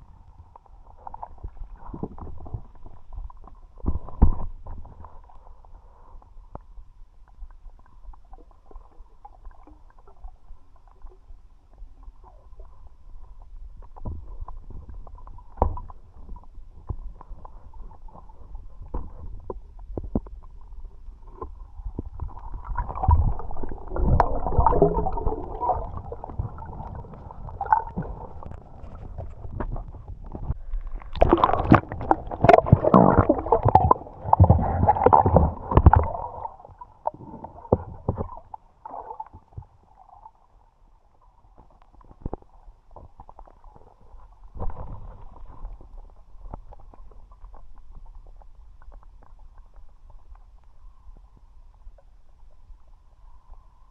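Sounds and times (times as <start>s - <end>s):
underwater bubbling: 0.0s - 53.9s.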